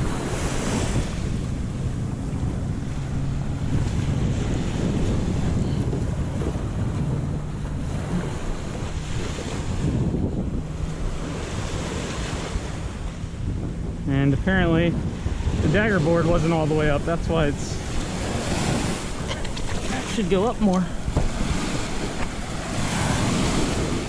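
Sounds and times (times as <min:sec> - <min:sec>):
waves sloshing: 0:00.0 - 0:24.0
wind buffeting microphone: 0:00.0 - 0:24.0.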